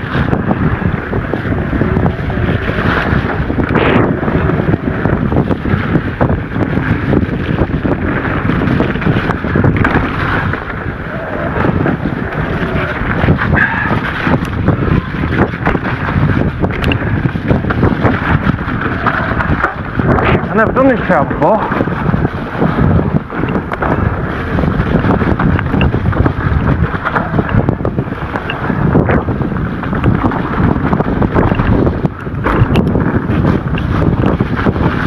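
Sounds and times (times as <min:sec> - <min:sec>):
bike knocks and rattles: 0:00.0 - 0:35.0
wind rushing over microphone: 0:00.0 - 0:35.0.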